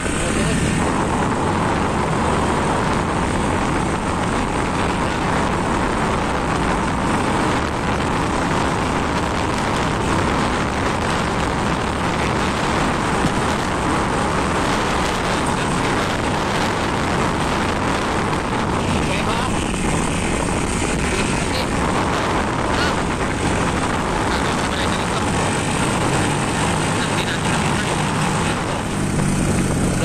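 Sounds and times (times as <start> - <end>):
motorcycle engine running: 0.0 - 30.0
road noise: 0.0 - 30.0
wind rushing: 0.0 - 30.0.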